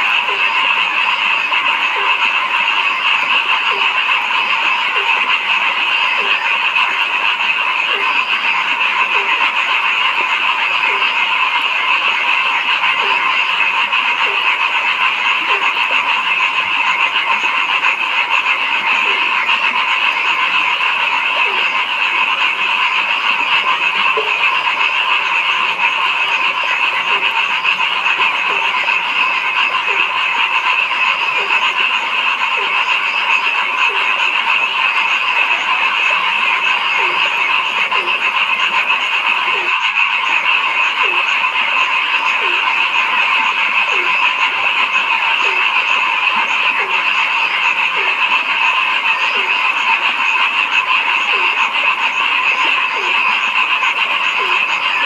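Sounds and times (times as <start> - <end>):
chorus of frogs calling: 0.0 - 55.0
low-pitched frog croak: 0.0 - 55.0.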